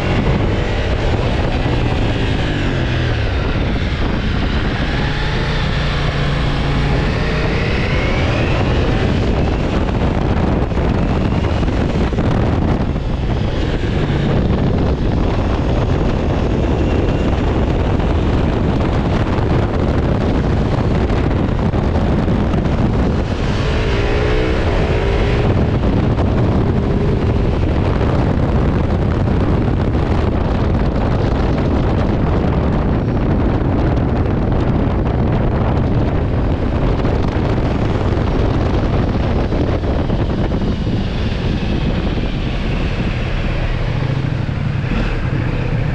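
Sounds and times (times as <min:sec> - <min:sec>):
motorcycle engine running: 0:00.0 - 0:45.9
wind noise on microphone: 0:00.0 - 0:45.9.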